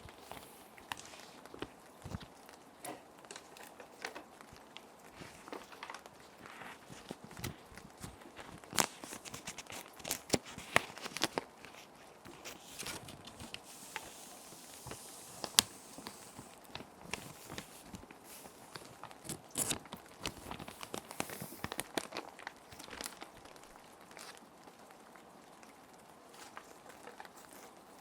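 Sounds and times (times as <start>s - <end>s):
plastic sheets crinkling: 0.0s - 24.9s, 26.2s - 28.0s
rain hiss: 0.0s - 28.0s.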